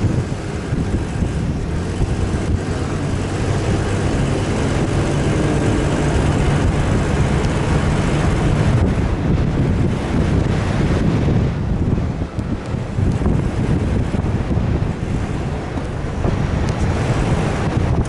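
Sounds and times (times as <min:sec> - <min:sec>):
vehicle engine running under load: 0:00.0 - 0:18.0
wind on microphone: 0:00.0 - 0:18.0.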